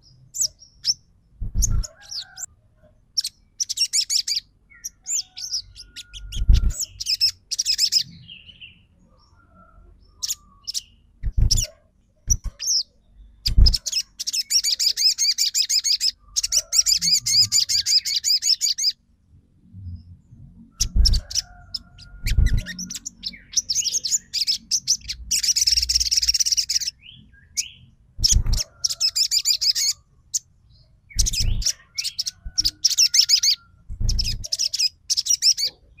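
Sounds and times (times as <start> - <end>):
songbird chattering: 3.2 - 8.8, 10.1 - 19.0, 20.7 - 30.5, 31.1 - 36.0.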